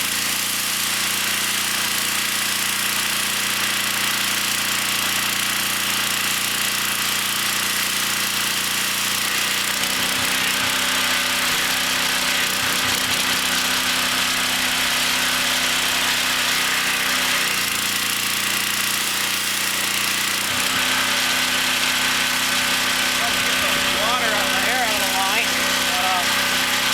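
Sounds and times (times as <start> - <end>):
pressure washer engine running: 0.0 - 26.9.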